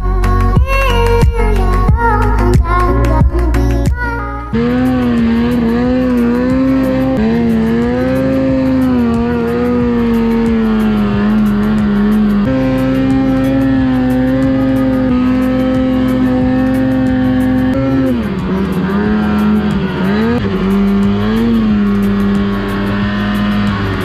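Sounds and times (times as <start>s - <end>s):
snowmobile engine at high revs: 0.0s - 24.0s.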